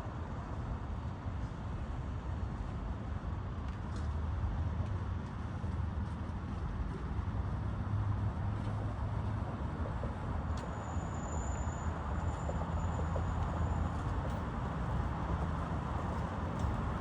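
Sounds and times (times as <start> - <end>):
traffic rumble: 0.2 - 17.0.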